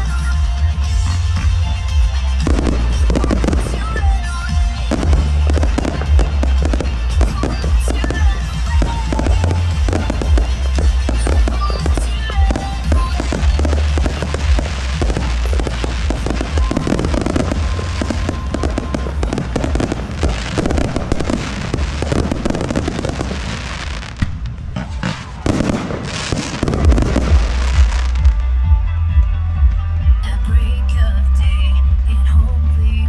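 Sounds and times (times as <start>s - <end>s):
loud music with heavy bass: 0.0s - 24.2s, 25.4s - 33.0s
fireworks bangs and crackles: 0.0s - 28.6s.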